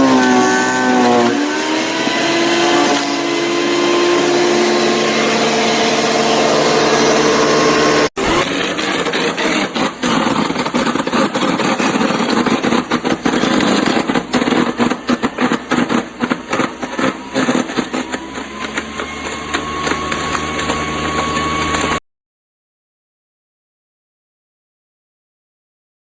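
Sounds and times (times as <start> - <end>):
wood chipper whirring: 0.0 - 22.0.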